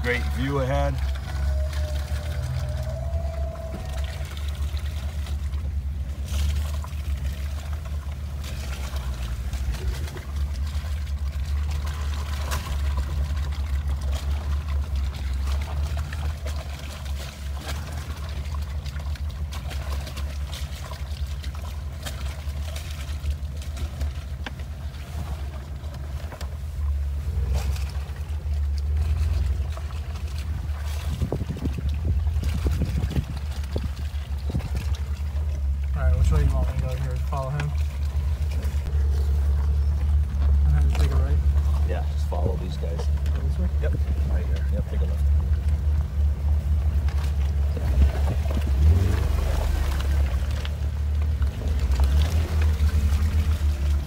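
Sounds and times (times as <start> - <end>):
engine and drivetrain rumble: 0.0 - 54.0
tyres through snow and mud: 0.0 - 54.0.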